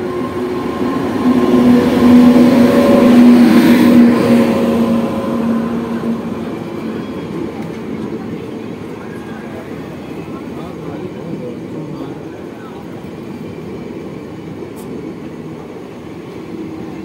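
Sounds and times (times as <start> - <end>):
electric locomotive hum: 0.0 - 17.0
train wheels rumbling: 0.0 - 17.0.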